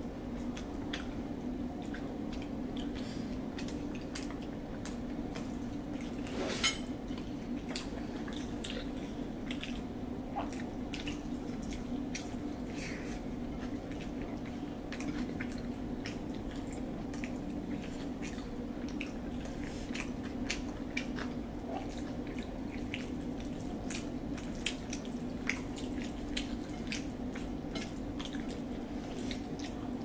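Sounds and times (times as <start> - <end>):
steady low hum: 0.0 - 30.0
wet chewing and lip-smacking: 0.2 - 6.3, 7.0 - 30.0.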